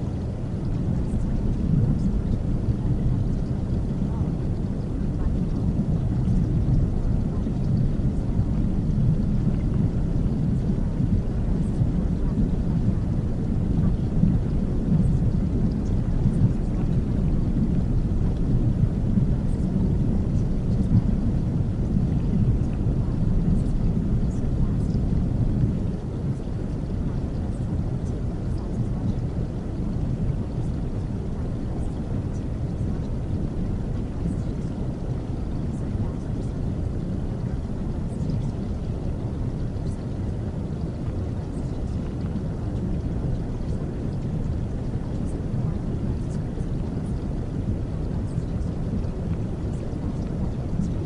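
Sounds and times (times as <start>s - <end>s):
deep even rumble: 0.0s - 51.0s
deep white noise: 0.0s - 51.0s.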